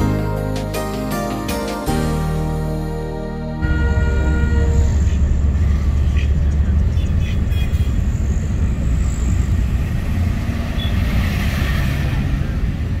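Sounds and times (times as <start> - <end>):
road traffic rumble: 2.1 - 13.0.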